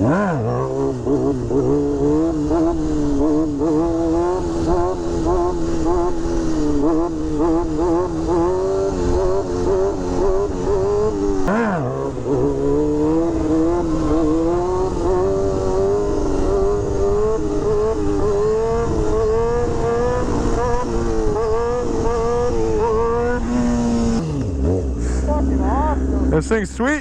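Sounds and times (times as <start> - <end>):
motorcycle engine at high revs: 0.0 - 27.0.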